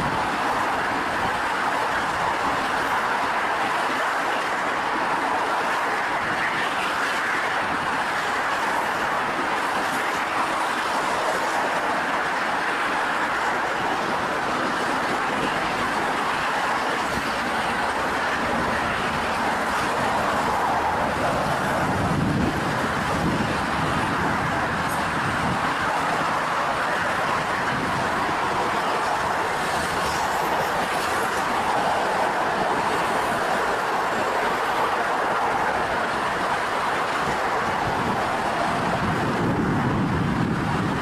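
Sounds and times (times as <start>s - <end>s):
moving vehicle noise: 0.0s - 41.0s.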